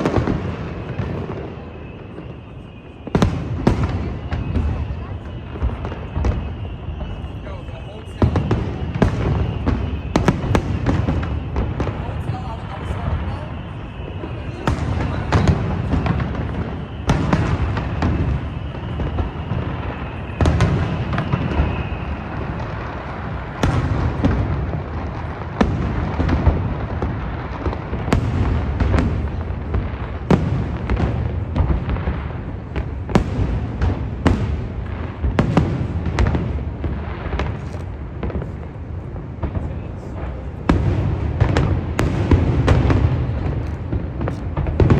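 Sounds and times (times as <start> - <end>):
fireworks booming: 0.0 - 44.9.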